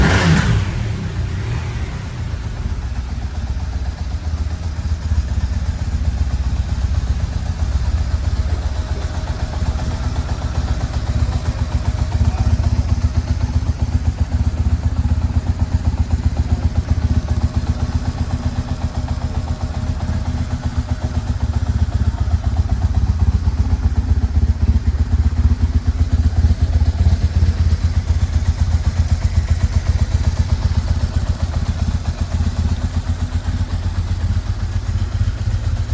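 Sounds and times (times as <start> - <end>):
motorcycle engine idling low: 0.0 - 35.9.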